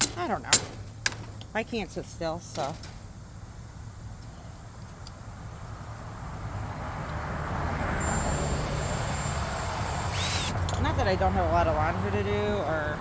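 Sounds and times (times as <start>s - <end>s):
motor vehicle engine hum: 0.0s - 13.0s
road noise: 0.0s - 13.0s.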